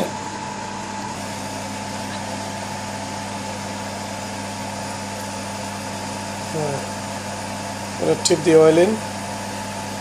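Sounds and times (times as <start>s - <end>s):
electric fan running: 0.0s - 10.0s.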